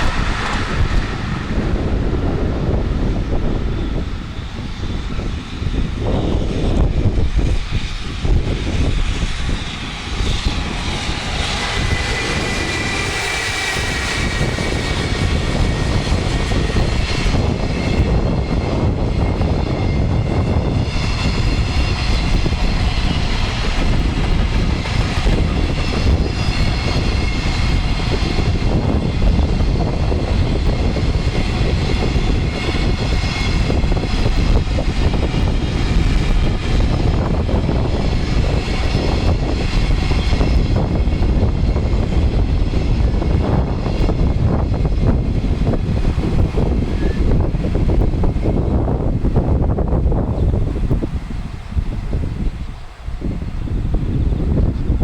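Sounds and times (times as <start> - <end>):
thin whine: 0.0 - 55.0
train wheels rumbling on rails: 0.0 - 55.0.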